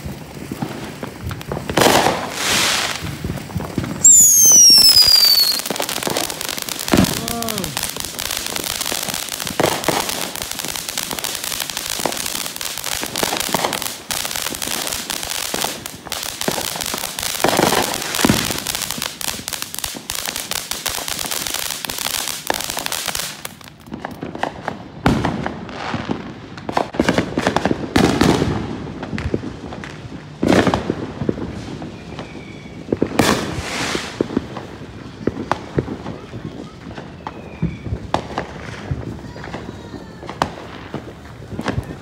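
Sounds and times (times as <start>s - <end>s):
distant firework crackling and popping: 0.0s - 42.0s
fountain firework hissing and crackling: 0.0s - 42.0s.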